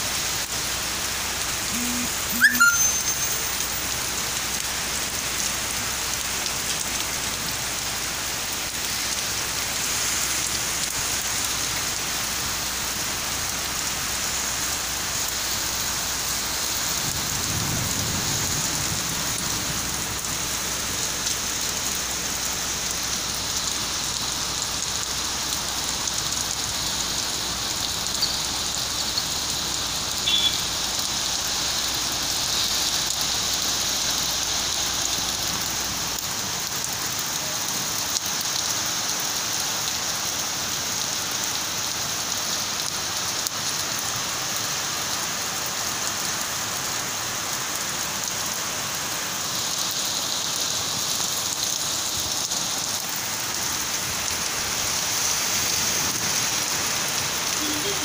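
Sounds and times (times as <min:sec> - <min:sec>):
heavy rain on paving: 0:00.0 - 0:58.0.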